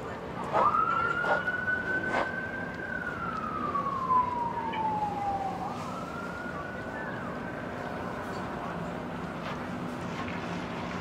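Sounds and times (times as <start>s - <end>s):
emergency siren wailing: 0.2s - 9.8s.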